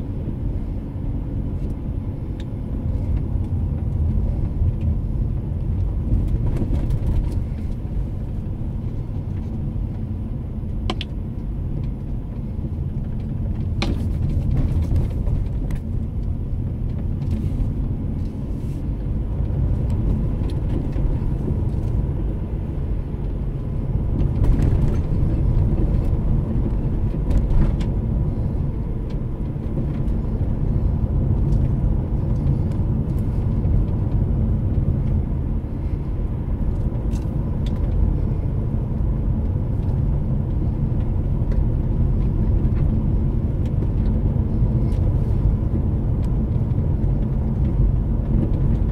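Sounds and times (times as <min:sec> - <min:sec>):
car engine and tyres rumbling: 0:00.0 - 0:48.9.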